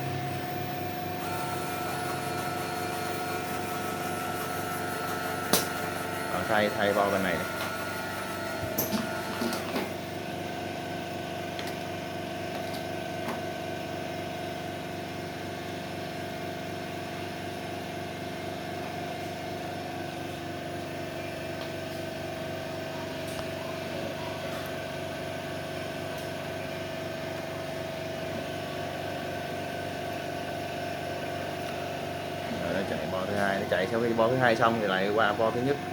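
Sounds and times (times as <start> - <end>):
soldering machine motor humming: 0.0 - 12.4, 18.8 - 35.9.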